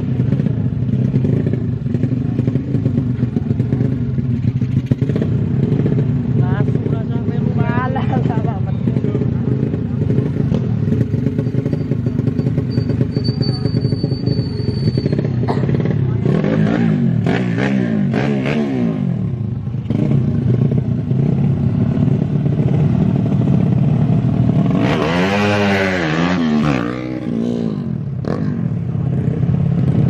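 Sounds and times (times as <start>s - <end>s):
small motorcycle engines revving: 0.0s - 30.0s.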